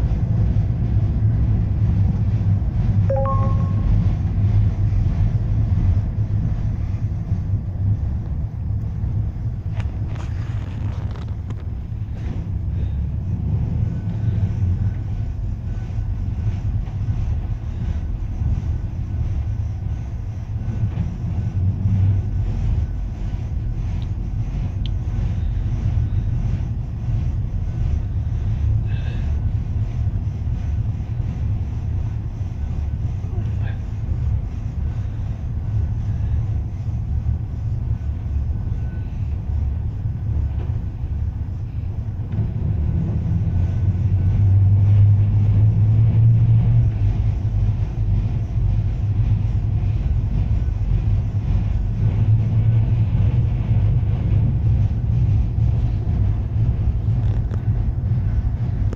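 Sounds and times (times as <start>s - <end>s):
tram wheels rumbling: 0.0s - 58.9s.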